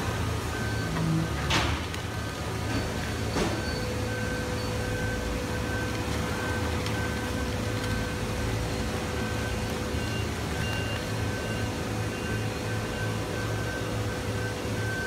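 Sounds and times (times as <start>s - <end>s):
machinery droning: 0.0s - 15.0s.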